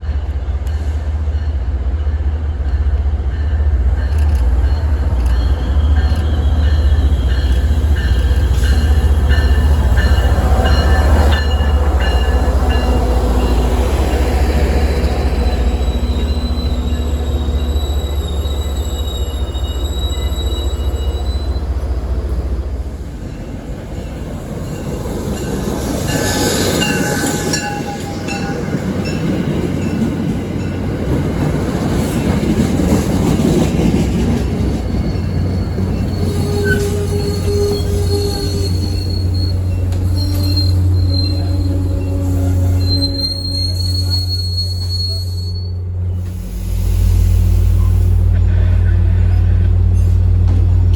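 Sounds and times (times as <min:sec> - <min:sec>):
train rumbling past: 0:00.0 - 0:50.9
wheels squealing on rails: 0:03.9 - 0:50.9.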